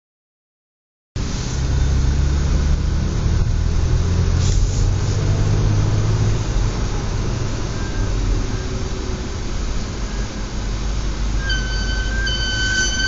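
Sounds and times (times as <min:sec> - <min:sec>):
car engine droning: 0:01.2 - 0:13.0.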